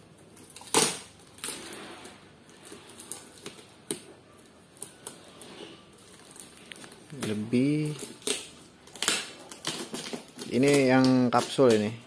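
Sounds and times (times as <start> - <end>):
cardboard packaging rustling: 0.1 - 12.0.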